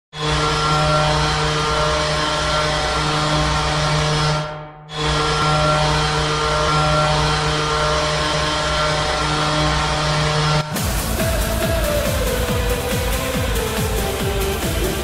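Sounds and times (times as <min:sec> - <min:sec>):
goal horn blasts: 0:00.2 - 0:13.9.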